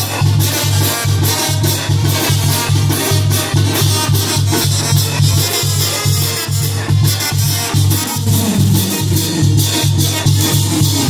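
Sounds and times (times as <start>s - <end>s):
loud dance music with heavy bass: 0.0s - 11.0s.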